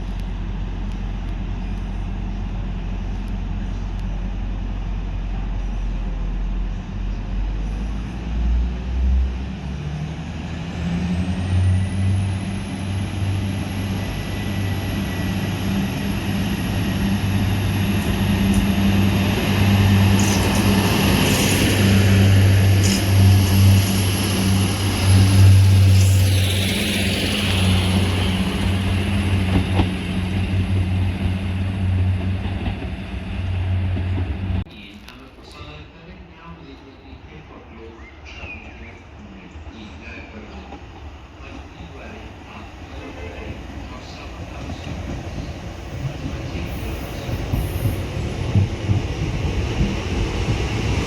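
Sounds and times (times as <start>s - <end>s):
train diesel engine humming: 0.0s - 51.0s.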